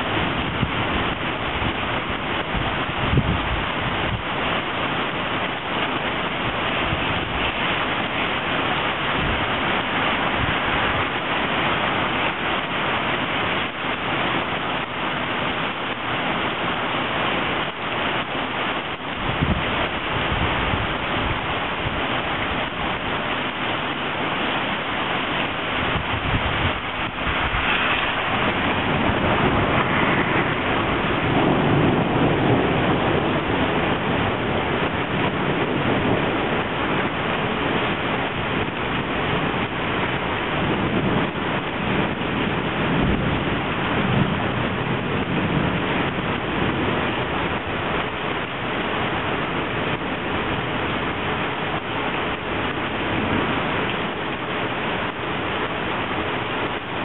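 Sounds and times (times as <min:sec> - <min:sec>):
low water surges: 0:00.0 - 0:57.0
rain pouring on flooded street: 0:00.0 - 0:57.0.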